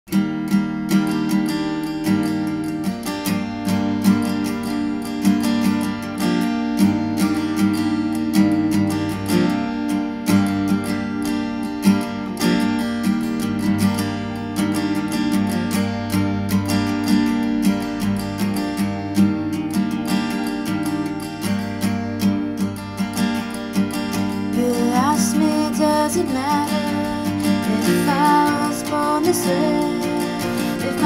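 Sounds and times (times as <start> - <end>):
acoustic guitar playing: 0.1 - 31.0.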